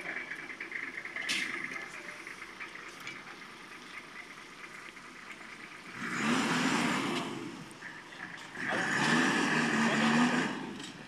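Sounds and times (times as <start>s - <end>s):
pickup truck engine revving: 0.0s - 11.0s.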